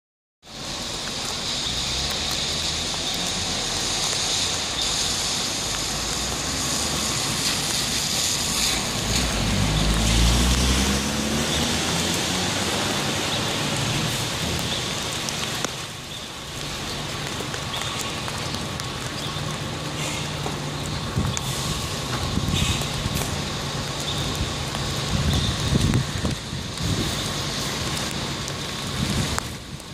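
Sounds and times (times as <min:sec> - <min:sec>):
rain on wet street: 0:00.4 - 0:29.9
vehicle driving past on wet road: 0:00.5 - 0:29.9.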